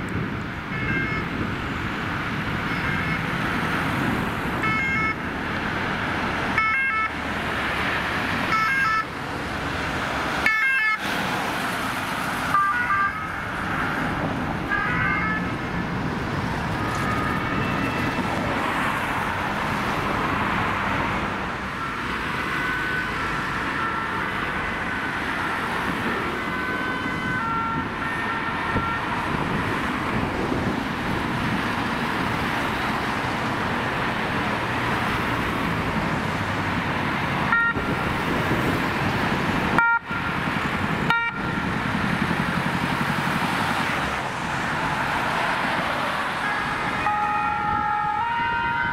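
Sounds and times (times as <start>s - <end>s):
engine and tyre noise: 0.0s - 48.9s
two-tone ambulance sirens: 0.3s - 48.9s.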